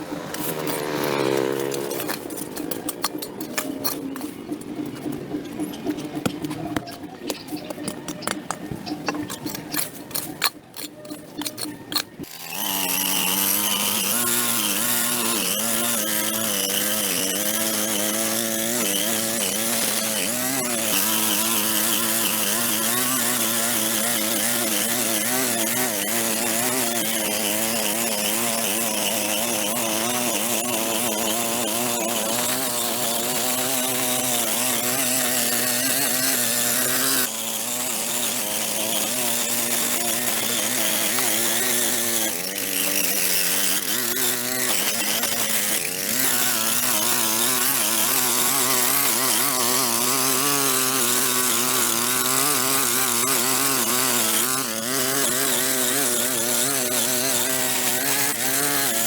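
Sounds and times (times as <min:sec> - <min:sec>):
power tool engine running: 0:00.0 - 0:59.0.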